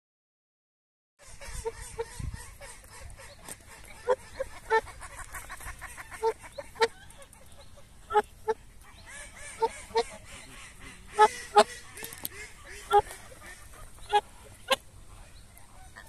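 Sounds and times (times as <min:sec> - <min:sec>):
geese honking: 0:01.2 - 0:14.8.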